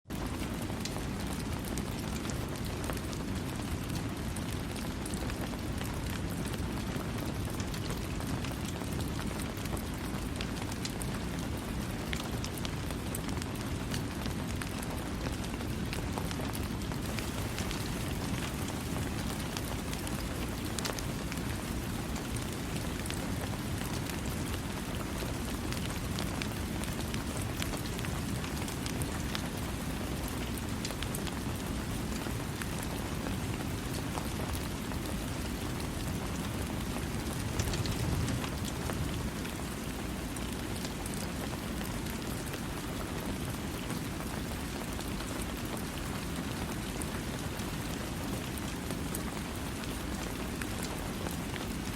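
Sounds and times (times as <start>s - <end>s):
steady rain falling: 0.1s - 51.9s.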